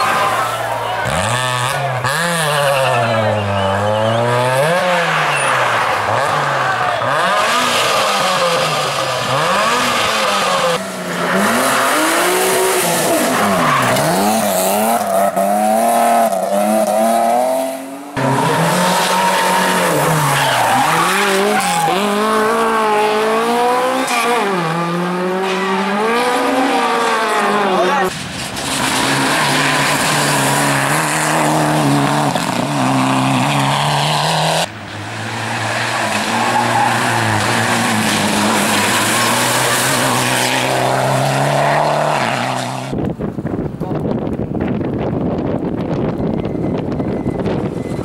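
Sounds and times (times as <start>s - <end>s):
rally cars at full throttle: 0.0s - 48.0s.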